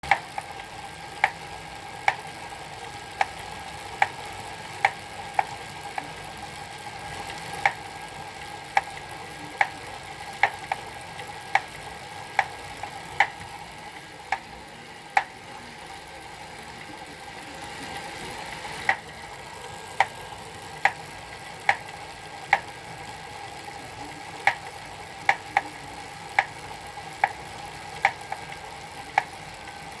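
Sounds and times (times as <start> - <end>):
bike trainer whine: 0.0 - 30.0.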